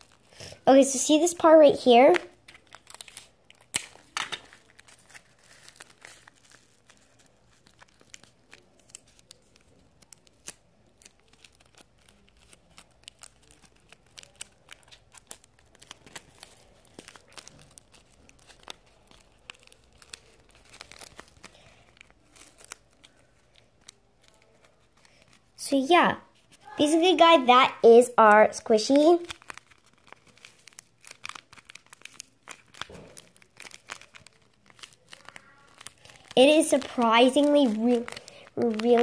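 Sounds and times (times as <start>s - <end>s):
paper and tape crinkling: 0.0s - 39.0s.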